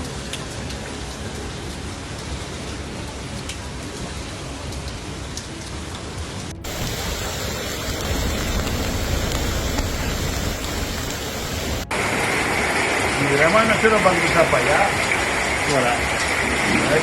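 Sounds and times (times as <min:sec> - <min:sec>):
heavy rain: 0:00.0 - 0:17.0
running water: 0:00.0 - 0:17.0.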